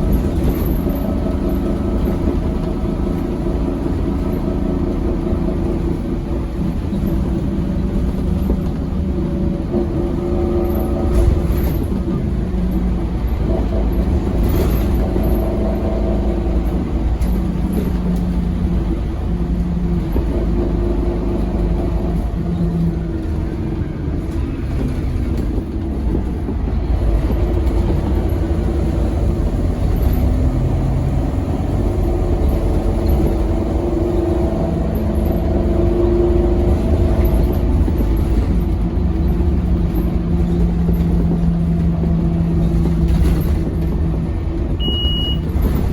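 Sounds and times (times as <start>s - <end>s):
bus engine: 0.0s - 45.9s.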